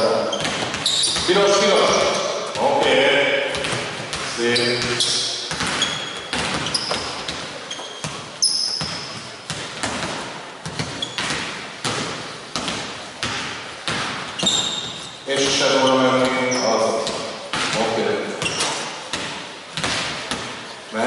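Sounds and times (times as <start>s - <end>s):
basketballs bouncing on hardwood: 0.0s - 20.7s
sneaker squeaks: 0.0s - 20.8s.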